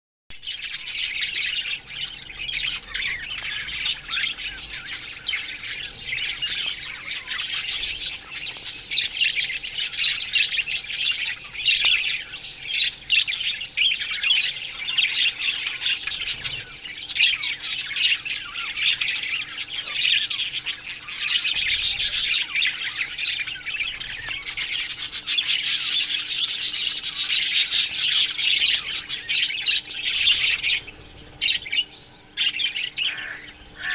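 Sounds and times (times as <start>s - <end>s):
budgerigars chattering and chirping: 0.4s - 33.9s.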